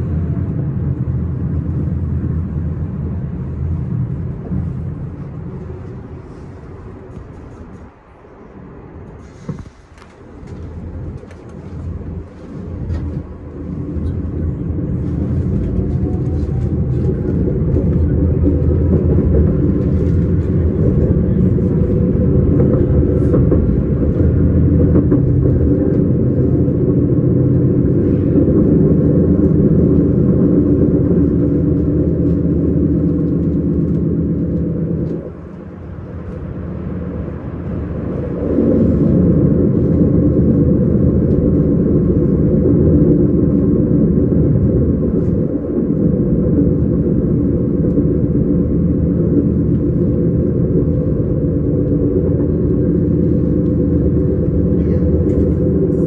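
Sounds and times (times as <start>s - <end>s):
electric train running: 1.7s - 56.0s.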